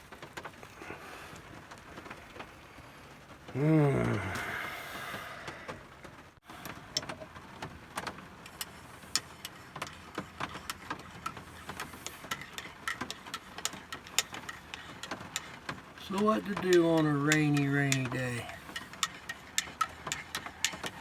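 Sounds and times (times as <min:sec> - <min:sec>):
raindrops dripping on a roof: 0:00.0 - 0:21.0.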